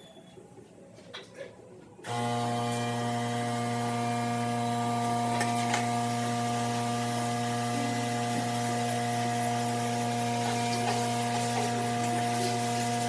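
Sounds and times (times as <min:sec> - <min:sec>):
electric motor humming: 0:02.0 - 0:13.0.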